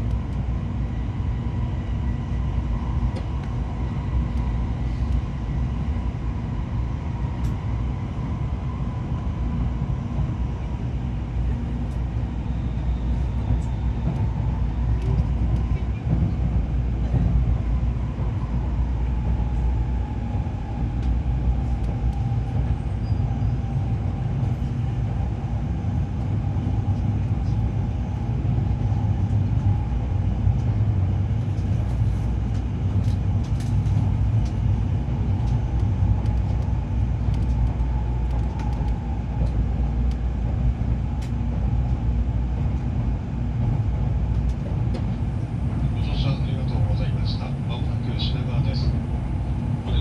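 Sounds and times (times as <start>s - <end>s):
train cabin low rumble: 0.0s - 50.0s.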